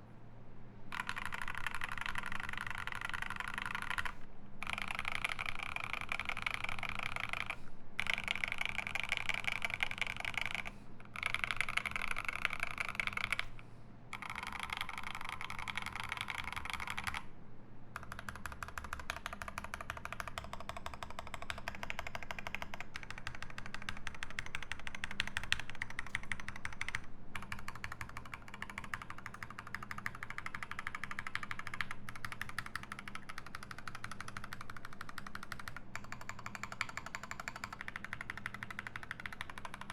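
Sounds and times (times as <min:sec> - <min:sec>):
fast mechanical keyboard typing: 0:00.9 - 0:13.5, 0:14.1 - 0:17.3, 0:18.0 - 0:39.9.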